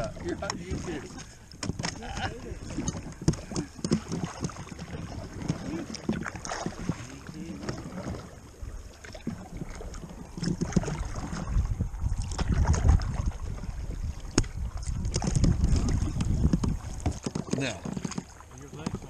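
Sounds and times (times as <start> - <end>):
paddles dipping and splashing: 0.0 - 19.0
water slapping against hull: 0.0 - 19.0.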